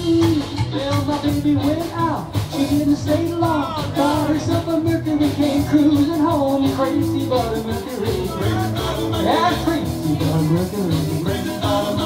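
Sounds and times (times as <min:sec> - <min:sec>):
electric guitar: 0:00.0 - 0:12.0
man singing: 0:00.0 - 0:12.0
upright bass: 0:00.0 - 0:12.0.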